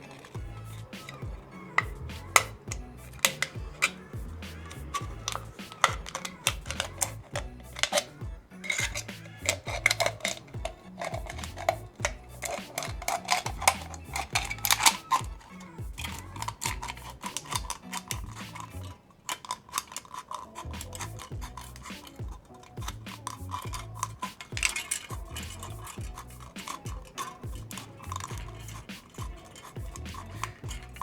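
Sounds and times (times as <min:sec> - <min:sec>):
background music with low beat: 0:00.0 - 0:19.0, 0:20.6 - 0:31.0
scissors snipping aluminium can: 0:00.0 - 0:31.0.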